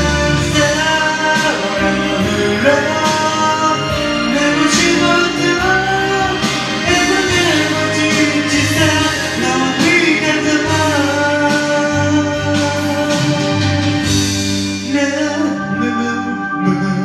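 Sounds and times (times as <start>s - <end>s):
instrumental backing track: 0.0s - 17.0s
person singing slow song: 0.0s - 17.0s.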